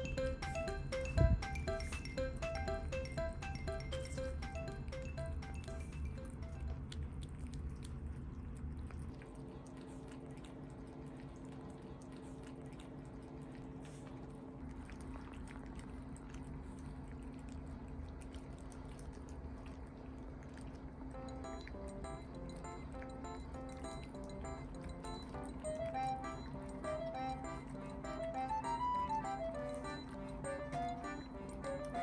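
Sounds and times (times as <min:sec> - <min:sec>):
cats licking and lapping: 0:05.7 - 0:32.0.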